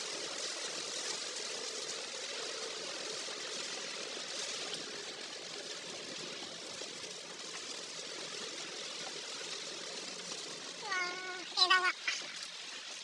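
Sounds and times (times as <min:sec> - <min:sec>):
rain: 0:00.0 - 0:13.0
wet tyres hissing on road: 0:00.0 - 0:13.0.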